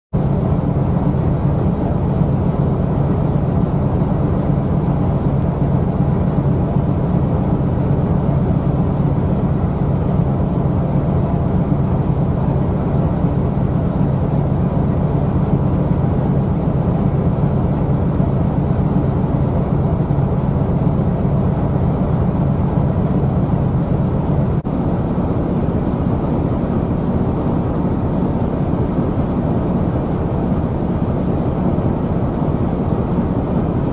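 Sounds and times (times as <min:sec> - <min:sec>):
rushing wind: 0:00.1 - 0:33.9
ship engine droning: 0:00.2 - 0:33.9
water noise: 0:00.2 - 0:33.9.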